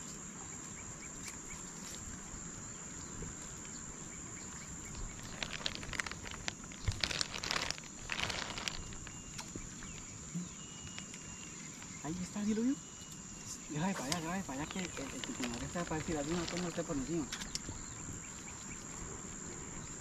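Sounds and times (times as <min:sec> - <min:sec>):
people walking through tall grass: 0:00.0 - 0:20.0.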